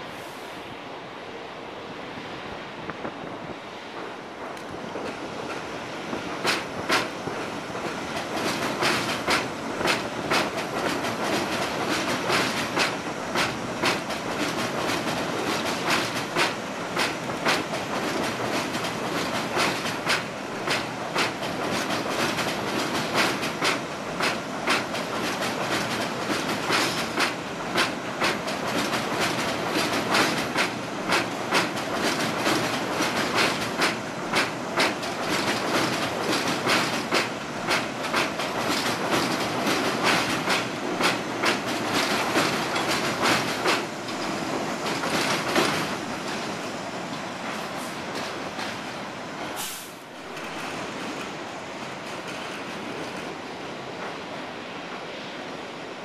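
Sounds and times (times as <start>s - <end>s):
train wheels clacking over rail joints: 4.0s - 53.4s.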